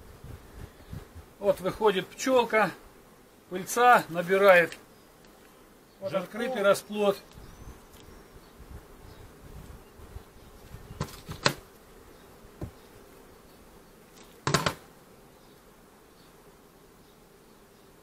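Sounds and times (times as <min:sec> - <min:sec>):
bees humming: 0:00.0 - 0:18.0.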